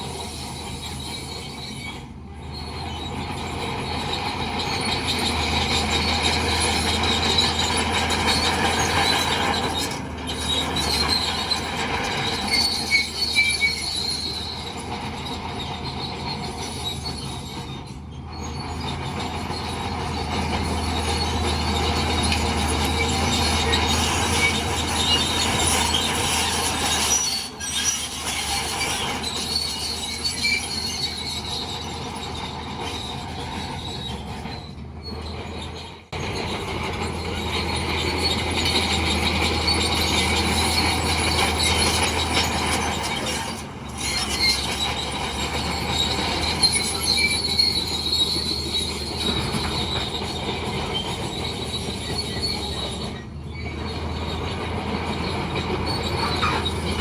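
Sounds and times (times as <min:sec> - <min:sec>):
steel tracks squealing and clanking: 0:00.0 - 0:57.0.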